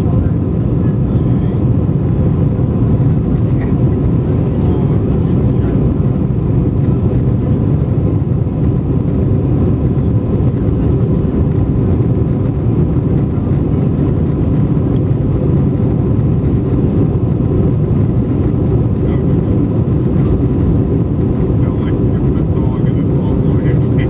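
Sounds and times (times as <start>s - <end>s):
airplane cabin drone: 0.0s - 24.0s.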